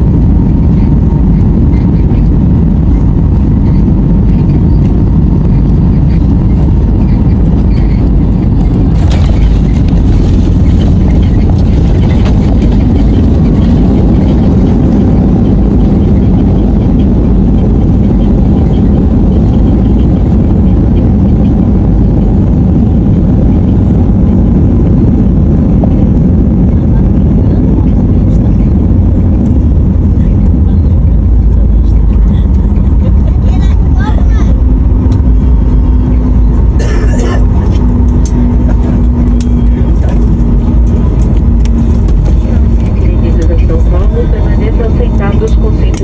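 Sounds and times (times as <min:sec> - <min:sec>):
airliner cabin engine rumble: 0:00.0 - 0:46.0.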